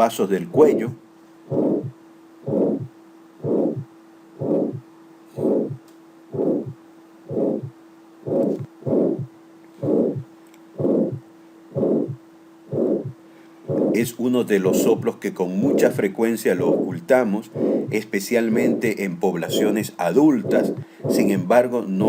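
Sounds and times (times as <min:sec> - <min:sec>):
steady low hum: 0:00.0 - 0:22.0
heart murmur through stethoscope: 0:01.5 - 0:04.8, 0:05.4 - 0:15.0, 0:15.6 - 0:16.0, 0:16.6 - 0:17.0, 0:17.6 - 0:21.6.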